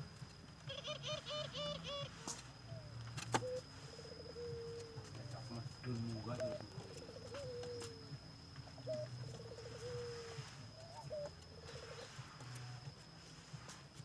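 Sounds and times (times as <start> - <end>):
doves cooing: 0.0 - 14.0.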